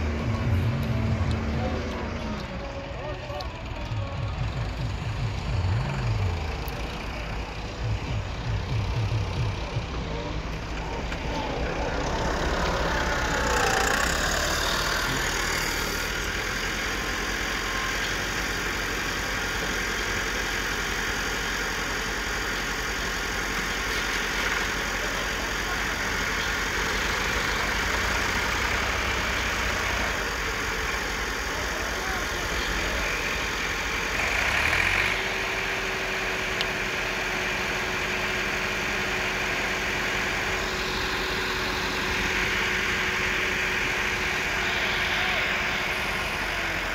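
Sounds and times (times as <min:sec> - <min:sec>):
diesel engines running: 0:00.0 - 0:46.9
steady higher engine tone: 0:00.0 - 0:46.9.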